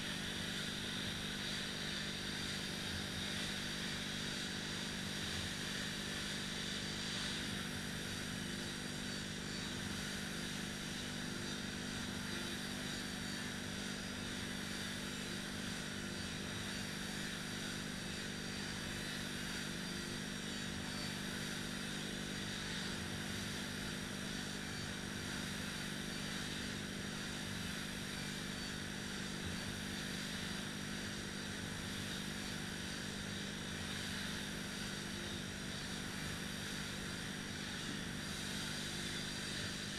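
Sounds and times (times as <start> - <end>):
rowing machine flywheels whirring: 0.0 - 39.9.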